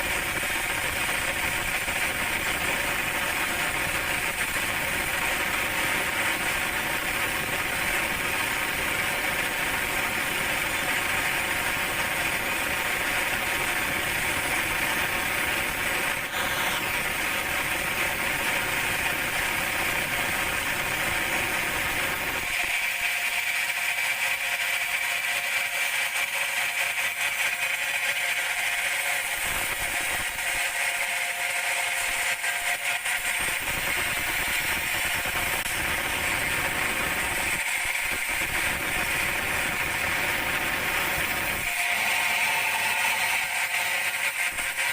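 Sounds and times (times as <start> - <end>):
band sawmill humming and rattling: 0.0 - 44.9.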